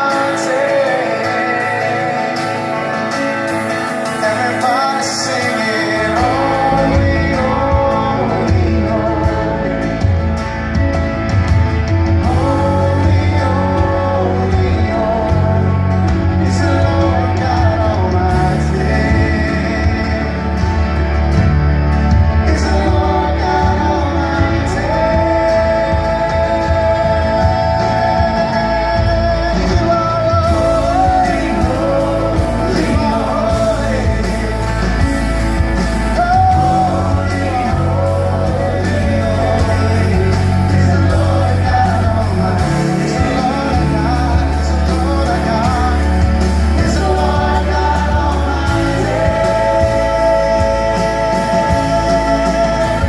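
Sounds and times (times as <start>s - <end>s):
man singing: 0.0s - 53.0s
rock band playing: 0.0s - 53.0s.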